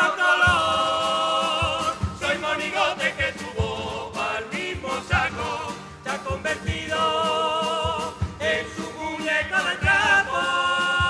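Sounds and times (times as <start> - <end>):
chorus singing in harmony: 0.0 - 11.0
guitars: 0.0 - 11.0
low drum beating: 0.5 - 10.4.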